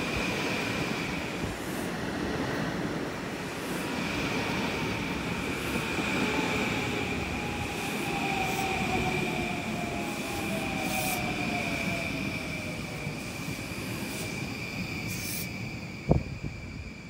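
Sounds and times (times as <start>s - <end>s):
train wheel rumble: 0.0s - 17.0s
steady high squeal: 3.2s - 17.0s.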